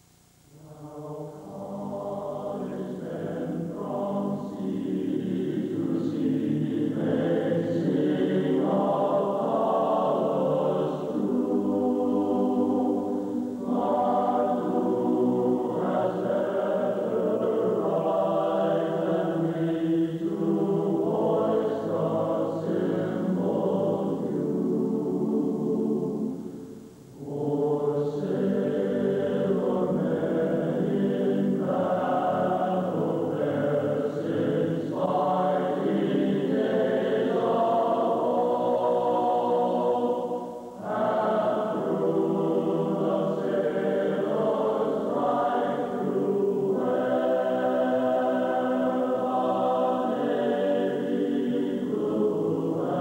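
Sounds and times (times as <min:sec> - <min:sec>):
choir singing sustained chords: 0:00.0 - 0:53.0.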